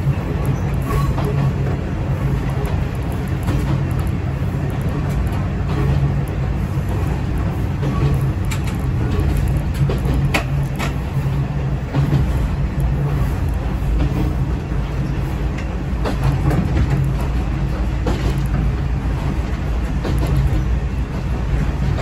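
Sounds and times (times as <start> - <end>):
diesel railcar engine hum: 0.0 - 22.0
wheels clicking over rail joints: 0.0 - 22.0.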